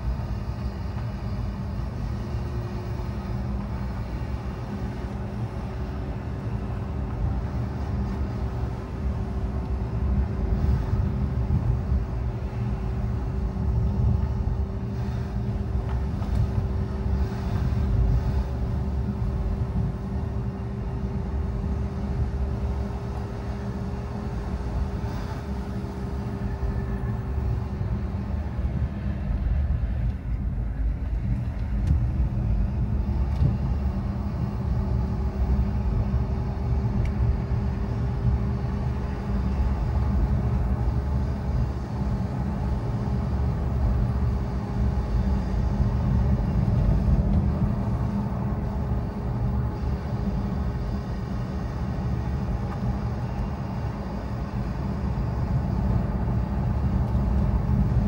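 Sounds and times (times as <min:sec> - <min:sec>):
car engine and road rumble: 0:00.0 - 0:58.0
thin whine: 0:00.0 - 0:58.0.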